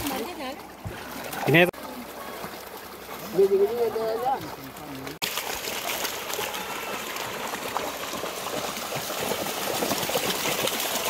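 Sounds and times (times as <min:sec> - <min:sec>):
floodwater rushing and splashing: 0:00.0 - 0:11.0.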